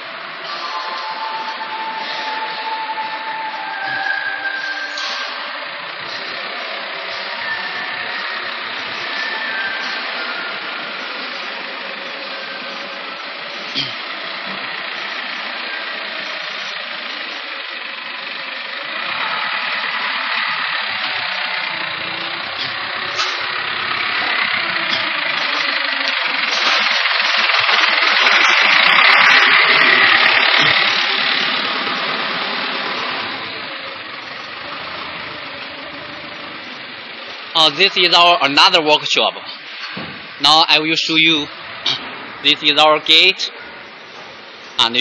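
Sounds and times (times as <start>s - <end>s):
forklift engine running: 0.0s - 45.0s.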